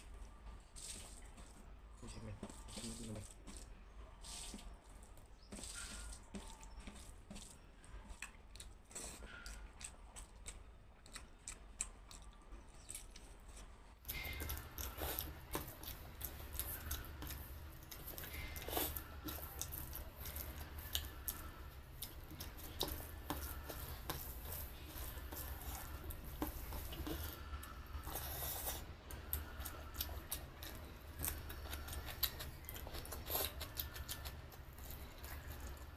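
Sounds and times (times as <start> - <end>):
fingers mixing wet food: 0.0 - 35.9.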